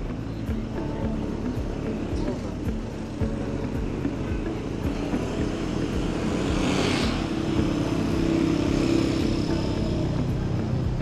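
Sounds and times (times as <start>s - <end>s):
motorcycle engine running: 0.0s - 11.0s
street traffic: 0.0s - 11.0s.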